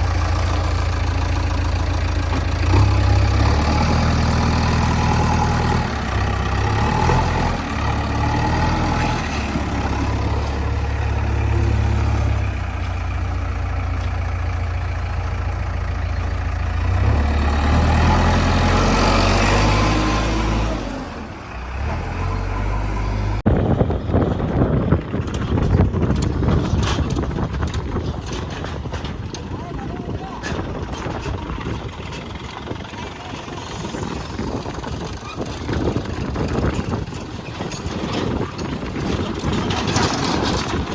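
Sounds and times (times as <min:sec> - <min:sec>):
engine knocks and clatter: 0:00.0 - 0:40.9
heavy diesel engine rumble: 0:00.0 - 0:40.9.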